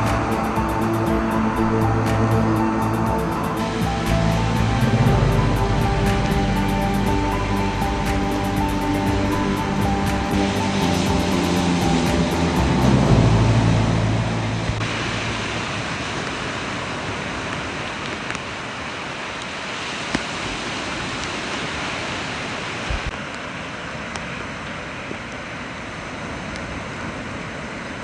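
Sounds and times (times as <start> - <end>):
sea surf breaking on shore: 0.0 - 28.0.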